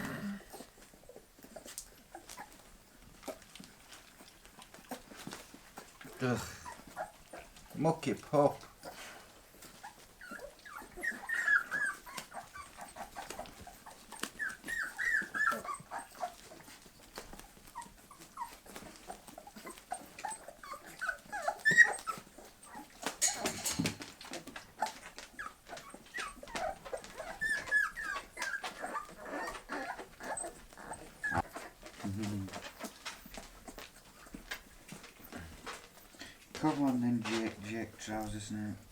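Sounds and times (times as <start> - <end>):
rustling: 0.0 - 38.9
puppies whimpering and squeaking: 0.4 - 38.9.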